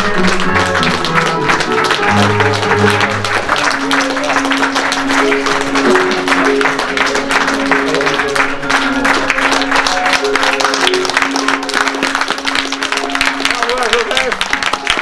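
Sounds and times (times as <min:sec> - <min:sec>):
audience applause: 0:00.0 - 0:15.0.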